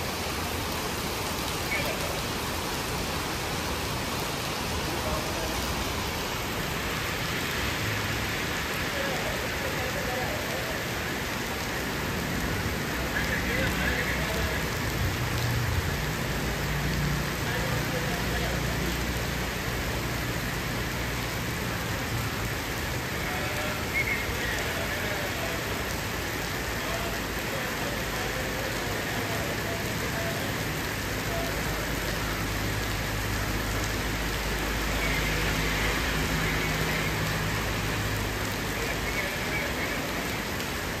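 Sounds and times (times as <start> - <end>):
heavy rain pouring onto paving: 0.0 - 41.0.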